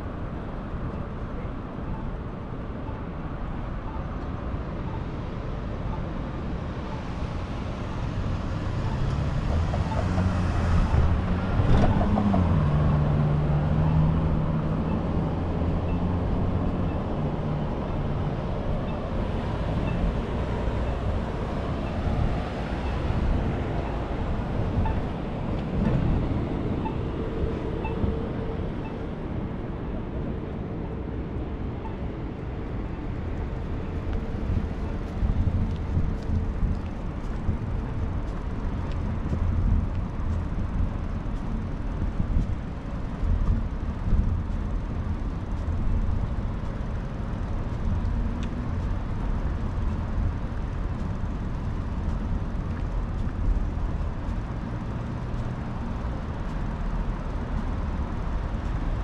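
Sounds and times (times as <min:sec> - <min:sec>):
traffic: 0:00.0 - 0:59.0
wind rumble on microphone: 0:00.0 - 0:59.0.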